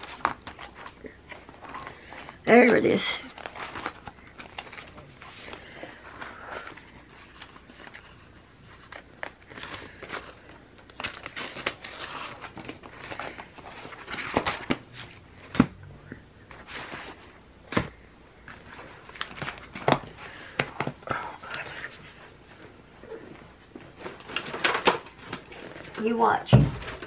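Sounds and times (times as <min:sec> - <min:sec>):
plastic pages rustling: 0:00.0 - 0:15.6, 0:16.5 - 0:22.7, 0:23.3 - 0:27.0.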